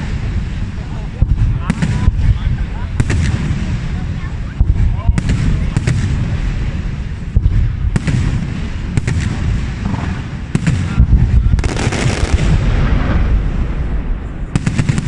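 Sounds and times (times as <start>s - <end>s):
fireworks crackling: 0.0s - 15.0s
fireworks exploding: 0.0s - 15.0s.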